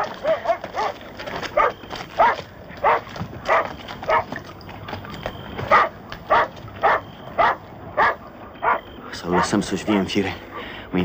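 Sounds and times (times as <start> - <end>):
dog barking: 0.0 - 4.3, 5.7 - 10.7.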